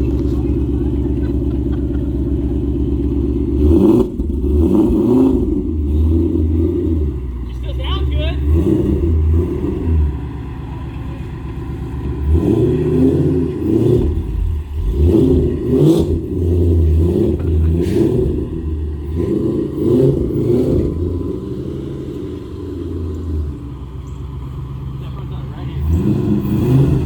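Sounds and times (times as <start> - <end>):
vehicle engine revving: 0.0 - 27.0.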